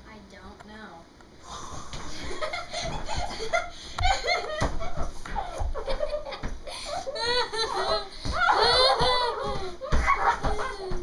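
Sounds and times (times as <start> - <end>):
person laughing: 2.1 - 11.0.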